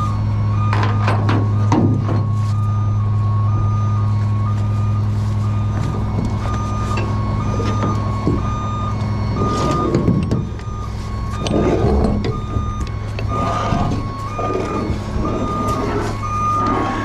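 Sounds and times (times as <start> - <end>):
truck diesel engine running: 0.0 - 17.0
two-tone warning alarm: 0.0 - 17.0.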